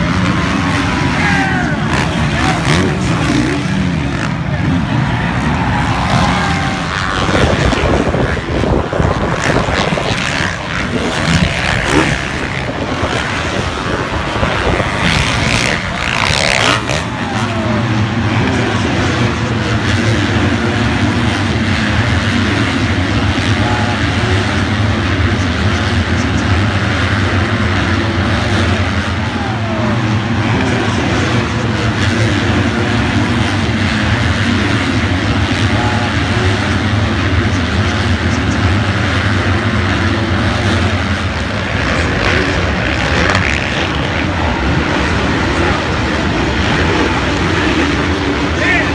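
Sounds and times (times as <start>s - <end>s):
loud engine drone: 0.0s - 48.9s.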